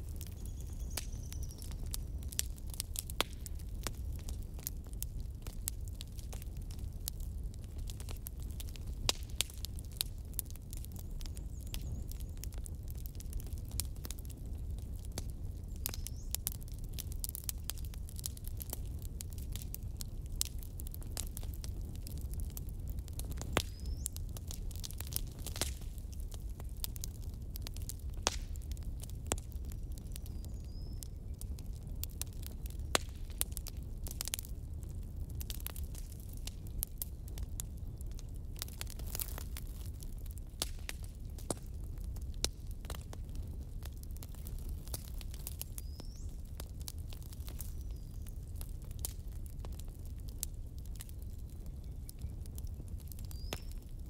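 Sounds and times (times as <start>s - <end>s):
fire crackling: 0.0s - 54.0s.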